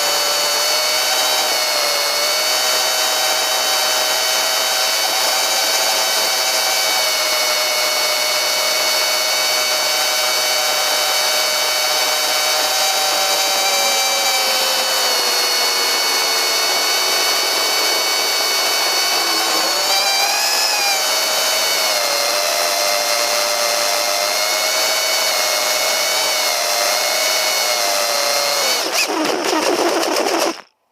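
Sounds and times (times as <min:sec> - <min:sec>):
drone electric motors whining: 0:00.0 - 0:30.7.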